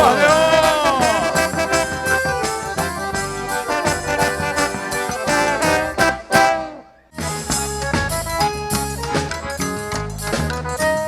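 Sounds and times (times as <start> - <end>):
accordion band music with percussion: 0.0 - 11.0.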